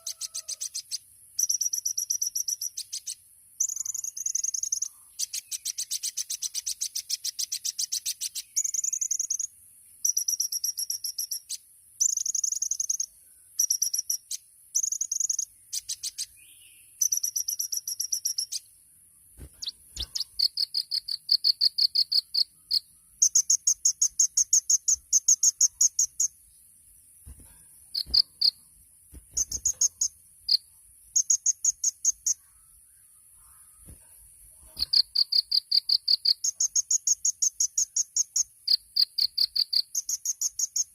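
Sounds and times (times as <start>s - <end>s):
sunbird fast ticking trills: 0.0s - 18.8s, 19.4s - 34.0s, 34.6s - 40.9s.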